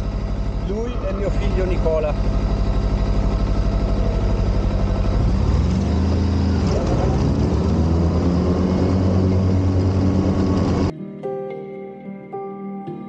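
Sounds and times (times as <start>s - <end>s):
lawn mower engine revving: 0.0s - 10.9s.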